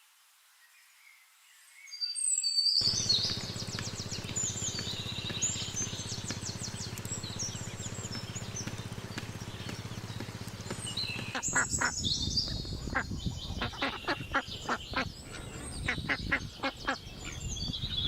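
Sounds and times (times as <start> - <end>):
songbirds chirping and trilling: 0.5 - 18.0
low background rumble: 2.8 - 18.0.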